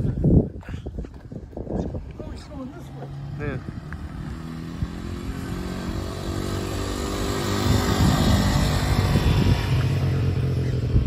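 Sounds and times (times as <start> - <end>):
vehicle engine running: 2.1 - 11.0.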